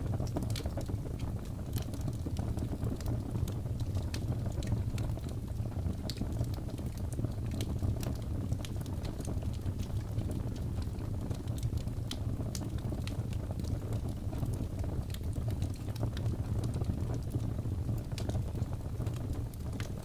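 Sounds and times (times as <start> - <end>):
fire rumbling: 0.0 - 20.0
logs crackling and popping: 0.0 - 20.0.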